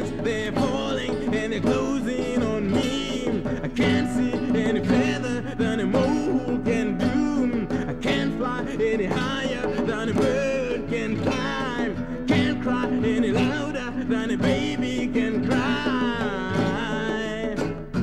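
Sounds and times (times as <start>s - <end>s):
guitar-backed song: 0.0s - 18.0s.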